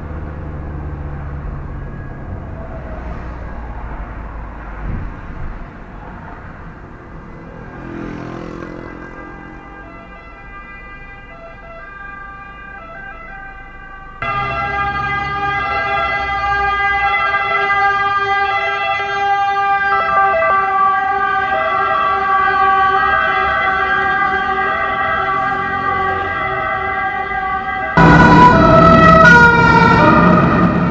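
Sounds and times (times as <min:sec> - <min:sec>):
traffic noise: 0:00.0 - 0:30.9
loud ambulance siren: 0:00.6 - 0:04.7, 0:07.3 - 0:30.9
faint siren: 0:00.7 - 0:04.6, 0:07.3 - 0:30.9.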